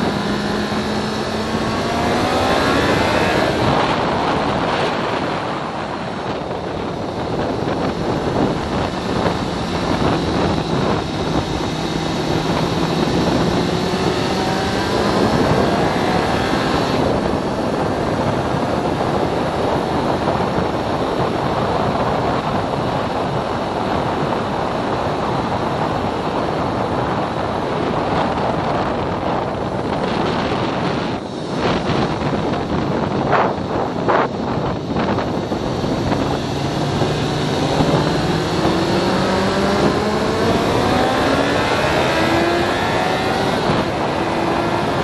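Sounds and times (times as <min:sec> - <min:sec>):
motorcycle engine accelerating: 0:00.0 - 0:45.0
wind rush on microphone: 0:00.0 - 0:45.0.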